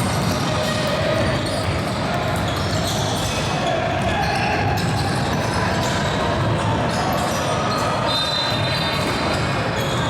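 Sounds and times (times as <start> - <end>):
din of players and spectators: 0.0 - 10.0.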